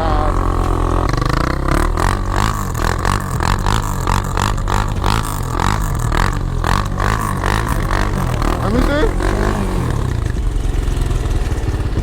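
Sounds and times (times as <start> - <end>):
quad engine running loudly: 0.0 - 12.0.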